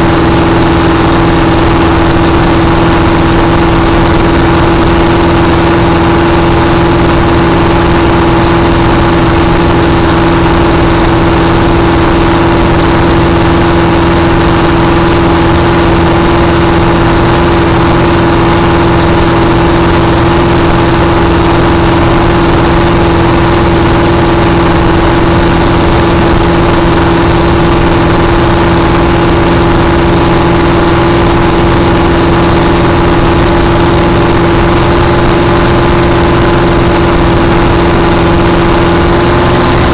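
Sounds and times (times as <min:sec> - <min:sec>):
speedboat engine running: 0:00.0 - 0:39.9.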